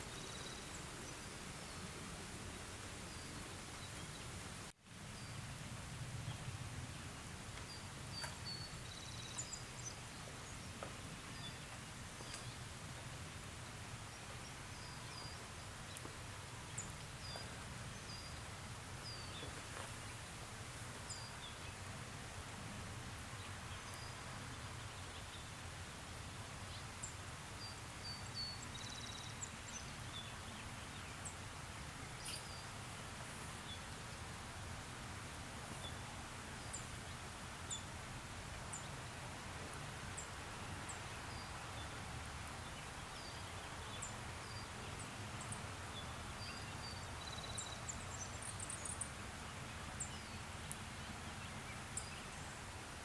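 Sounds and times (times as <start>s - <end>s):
light rain hiss: 0.0s - 53.0s.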